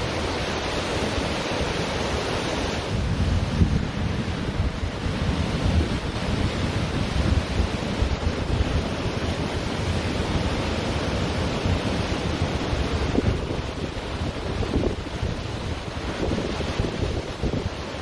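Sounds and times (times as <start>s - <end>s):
ocean surf washing: 0.0s - 18.0s
wind buffeting microphone: 0.0s - 18.0s.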